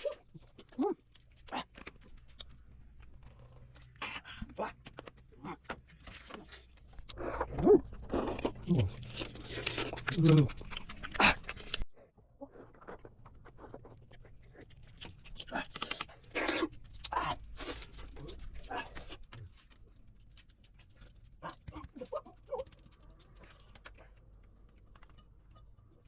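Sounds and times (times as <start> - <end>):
animal sounds: 0.0 - 20.0, 20.7 - 26.0.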